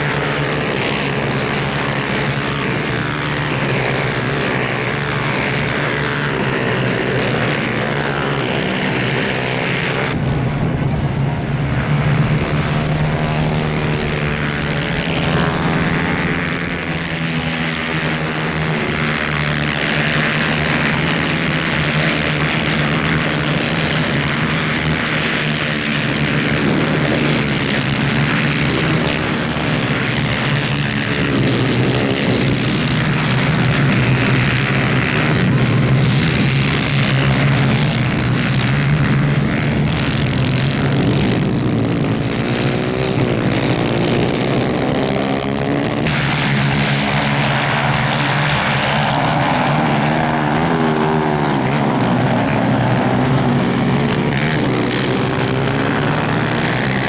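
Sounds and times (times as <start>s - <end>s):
kart engines racing: 0.0s - 57.0s.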